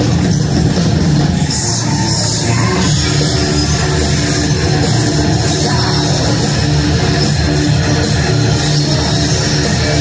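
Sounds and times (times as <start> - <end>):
loud industrial rock music: 0.0 - 10.0.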